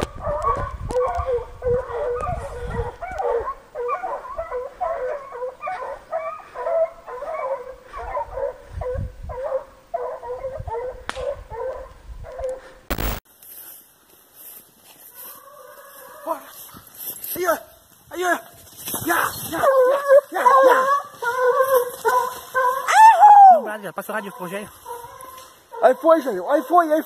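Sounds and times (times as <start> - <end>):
hounds baying in chorus: 0.0 - 12.8, 15.0 - 16.7, 19.2 - 27.0.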